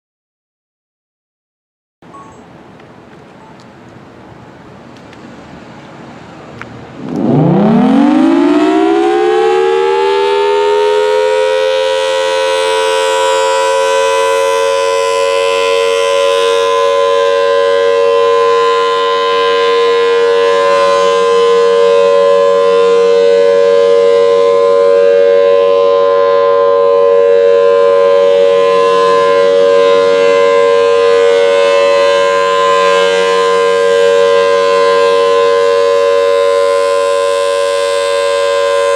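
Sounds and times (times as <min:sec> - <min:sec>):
warning siren wailing: 0:06.9 - 0:38.9.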